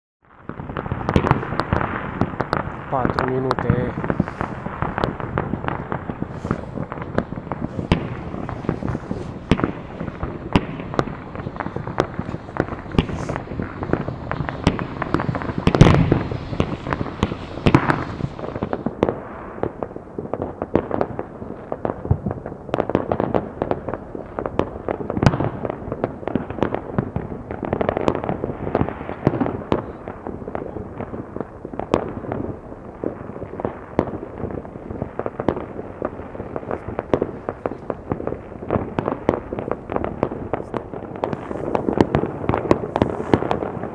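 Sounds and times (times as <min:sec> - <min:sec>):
fireworks crackling and banging: 0:00.2 - 0:43.9.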